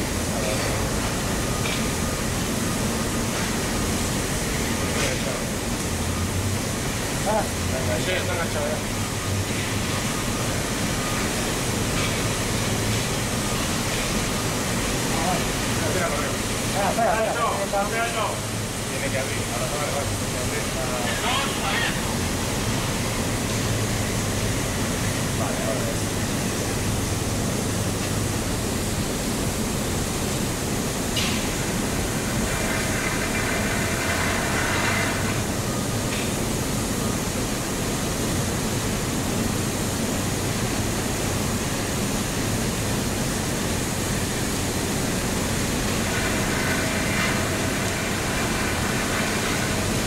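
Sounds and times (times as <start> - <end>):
steelworks roar and hiss: 0.0 - 50.0.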